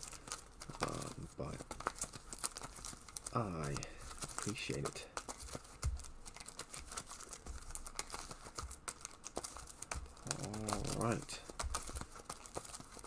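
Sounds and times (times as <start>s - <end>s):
cards clicking and flicking: 0.0s - 13.0s.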